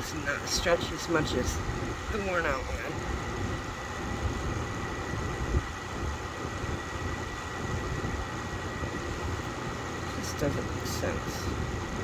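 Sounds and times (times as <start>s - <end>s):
machinery hum and rumble: 0.0s - 12.0s.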